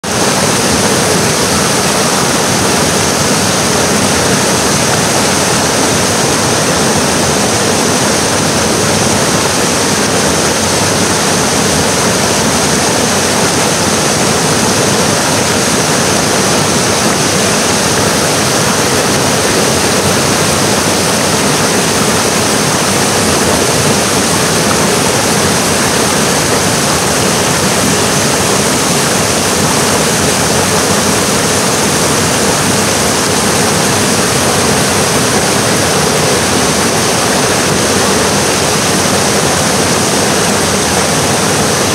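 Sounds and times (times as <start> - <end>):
waterfall rushing over rocks: 0.0 - 41.9.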